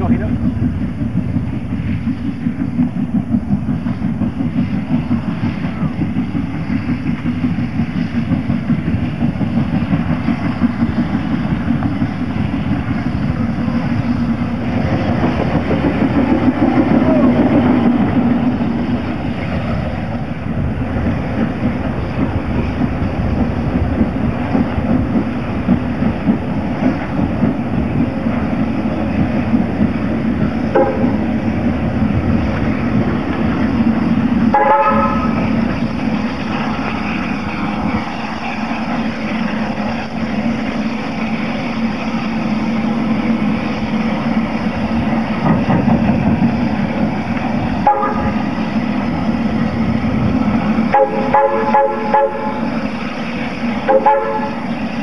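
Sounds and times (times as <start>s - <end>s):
steam train clattering past: 0.0s - 55.0s.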